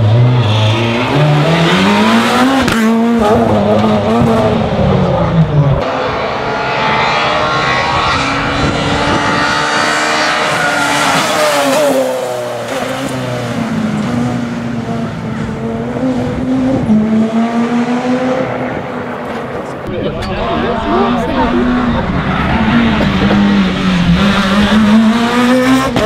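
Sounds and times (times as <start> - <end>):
rally car engine revving hard: 0.0 - 19.5, 20.2 - 26.0.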